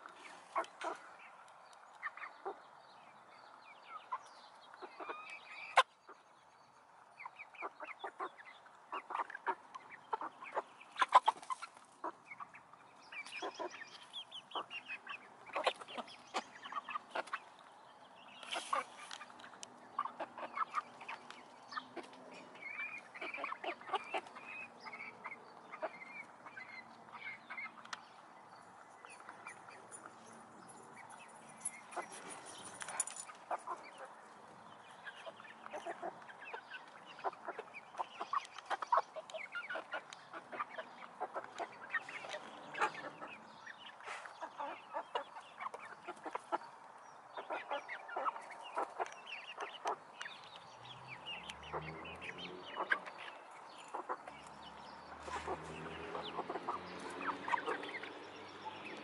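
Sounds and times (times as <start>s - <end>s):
hens clucking: 0.0s - 2.6s, 7.2s - 29.9s, 31.0s - 59.0s.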